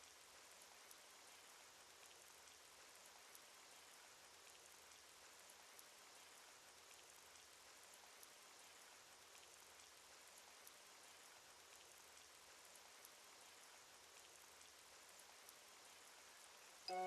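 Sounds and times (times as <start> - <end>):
soft steady rain: 0.0 - 17.0.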